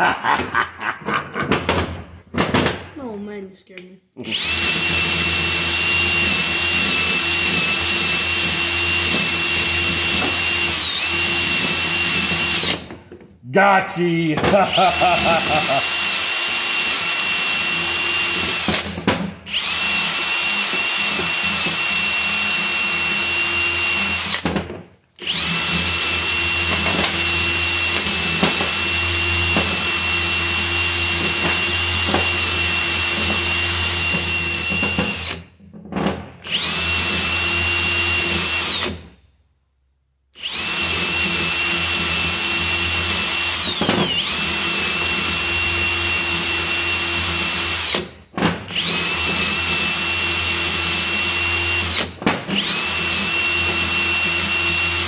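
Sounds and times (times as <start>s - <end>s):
cordless drill whining: 4.2s - 13.0s, 14.8s - 24.6s, 25.2s - 35.5s, 36.4s - 39.1s, 40.4s - 55.0s.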